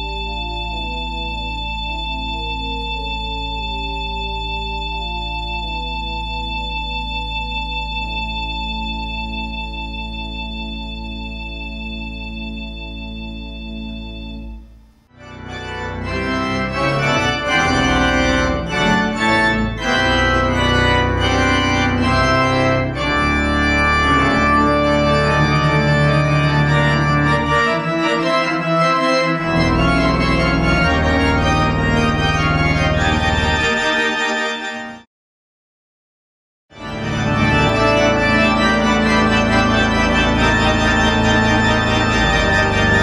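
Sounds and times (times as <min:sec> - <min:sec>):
deep organ pedal bass: 0:00.0 - 0:34.8, 0:36.7 - 0:43.0
organ playing sustained chords: 0:00.0 - 0:35.1, 0:36.8 - 0:43.0.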